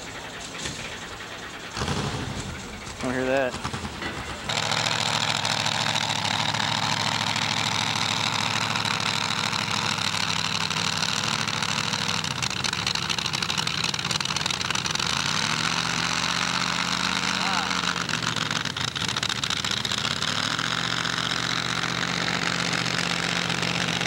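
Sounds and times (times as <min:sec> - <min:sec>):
supercharged engine idling: 0:00.0 - 0:24.0.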